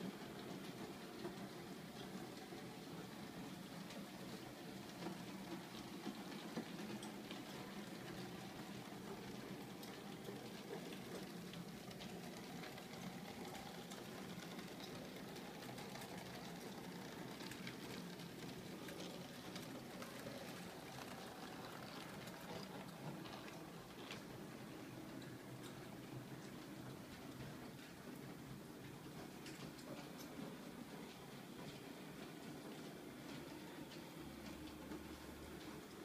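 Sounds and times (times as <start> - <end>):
model train whirring: 0.0 - 36.0
wheels clicking on track: 0.0 - 36.0.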